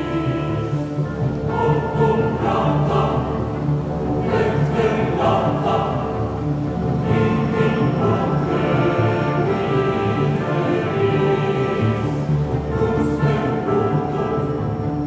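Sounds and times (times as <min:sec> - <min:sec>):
choir singing: 0:00.0 - 0:15.0
symphony orchestra: 0:00.0 - 0:15.0.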